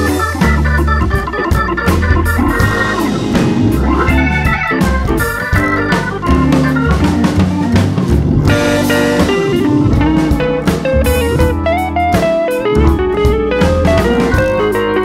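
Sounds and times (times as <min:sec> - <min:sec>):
bass and drums: 0:00.0 - 0:15.0
bluesy guitar melody: 0:00.0 - 0:15.0.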